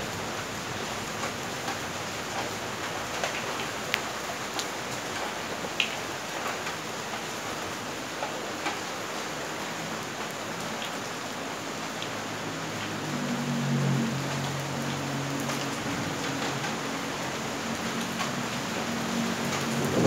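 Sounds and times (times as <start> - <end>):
steady rain: 0.0 - 20.0
raindrops tapping: 0.2 - 20.0.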